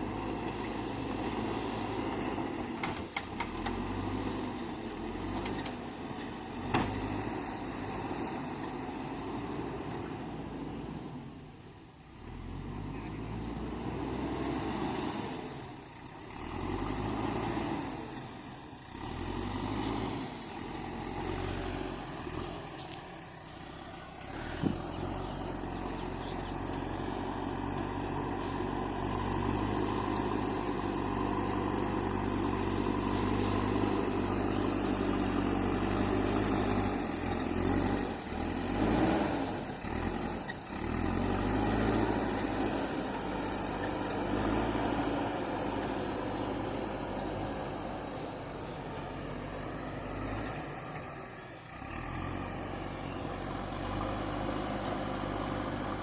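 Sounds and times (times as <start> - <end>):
diesel engine working: 0.0 - 56.0.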